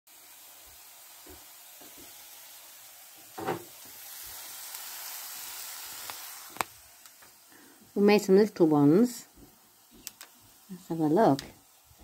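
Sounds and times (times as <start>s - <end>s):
meat sizzling in a pan: 0.1s - 12.0s.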